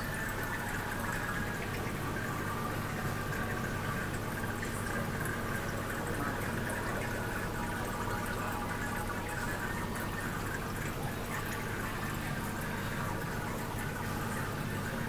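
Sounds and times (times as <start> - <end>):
aquarium water bubbling: 0.0 - 15.0.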